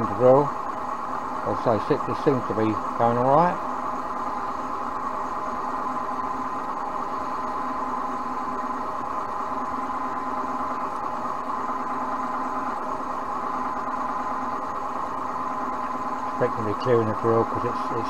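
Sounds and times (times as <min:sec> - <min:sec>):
bench drill motor humming: 0:00.0 - 0:18.0.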